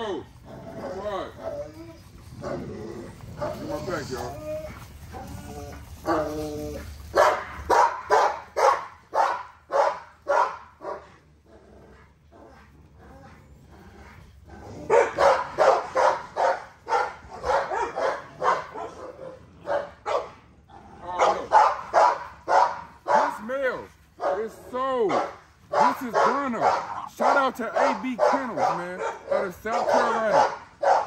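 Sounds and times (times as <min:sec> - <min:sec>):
puppies barking: 0:00.7 - 0:11.2, 0:14.7 - 0:31.0.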